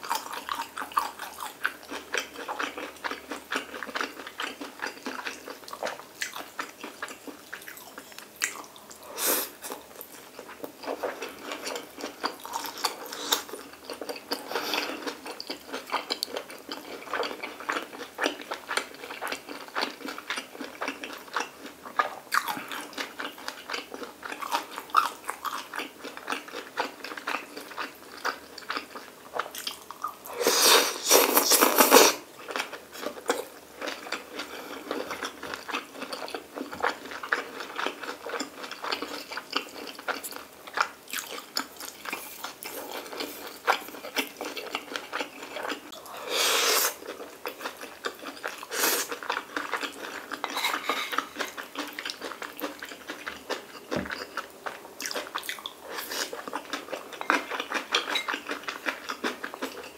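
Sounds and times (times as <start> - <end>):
chewing and biting food: 0.0 - 9.0, 9.7 - 30.2, 31.2 - 46.0, 46.8 - 59.9.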